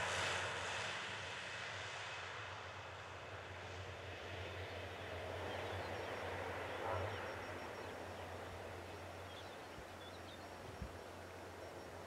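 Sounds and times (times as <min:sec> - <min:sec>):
turboprop plane flying: 0:00.0 - 0:12.0.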